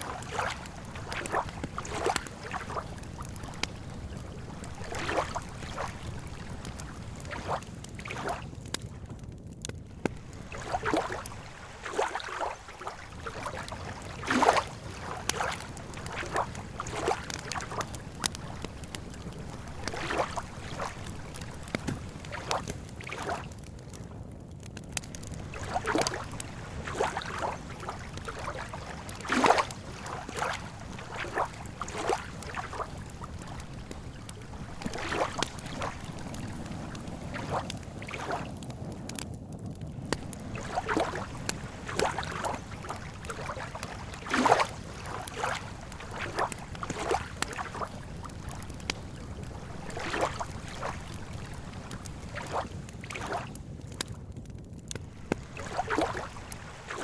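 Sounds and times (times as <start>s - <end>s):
lake water lapping: 0.0s - 9.0s, 9.9s - 23.6s, 25.1s - 39.2s, 40.0s - 53.6s, 55.1s - 57.0s
campfire crackling and popping: 0.0s - 57.0s.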